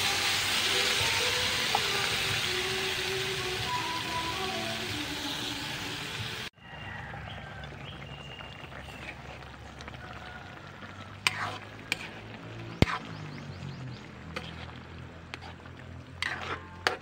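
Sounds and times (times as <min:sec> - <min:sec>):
vegetables sizzling in oil: 0:00.0 - 0:06.6, 0:08.1 - 0:17.0
vegetables simmering: 0:00.0 - 0:17.0.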